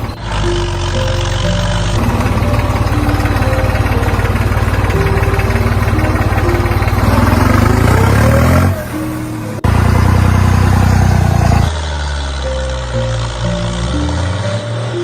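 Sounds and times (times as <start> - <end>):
background music: 0.0 - 15.0
mini tractor engine running: 0.0 - 15.0.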